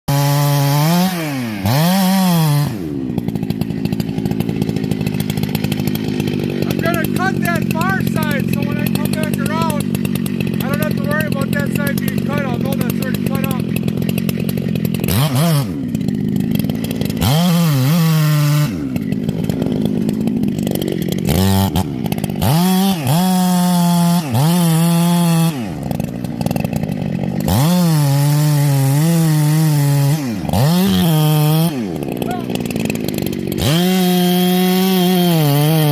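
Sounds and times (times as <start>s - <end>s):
chainsaw revving and cutting: 0.1s - 35.9s.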